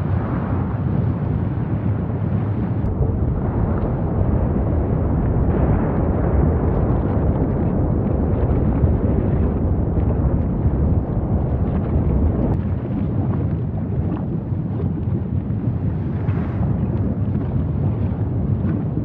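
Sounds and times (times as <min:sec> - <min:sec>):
lava fountain rumbling: 0:00.0 - 0:19.0
lava spatter crackles and pops: 0:00.0 - 0:19.0.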